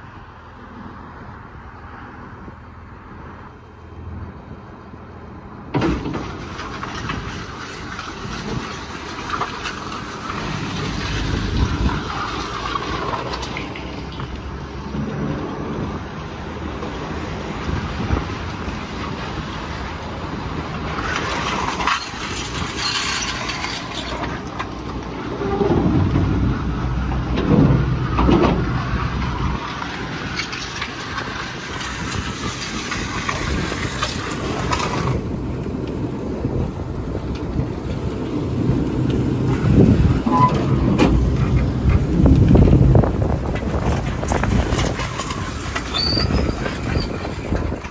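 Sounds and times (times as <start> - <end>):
tractor engine running: 4.9 - 47.9.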